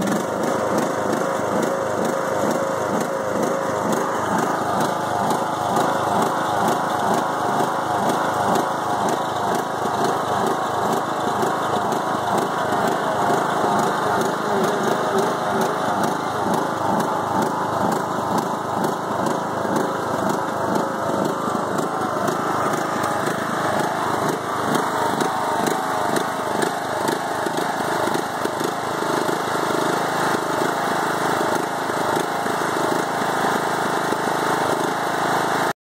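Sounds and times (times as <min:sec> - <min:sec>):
riding mower engine rough idle: 0:00.0 - 0:35.7.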